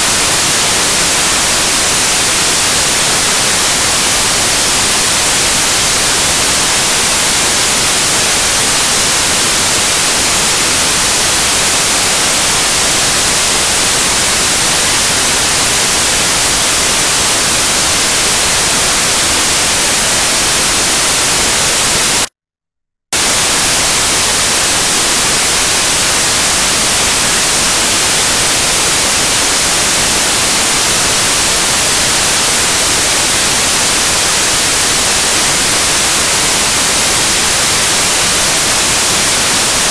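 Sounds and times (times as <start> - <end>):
static hiss: 0.0 - 22.3, 23.2 - 39.9.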